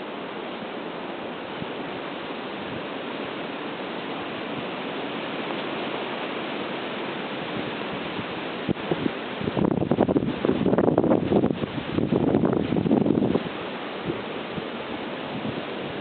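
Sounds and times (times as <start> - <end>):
blizzard wind blowing: 1.1 - 16.0.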